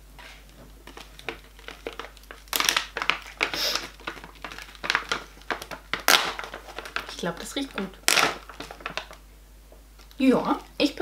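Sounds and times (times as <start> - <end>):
plastic pouch crinkling: 0.2 - 9.3.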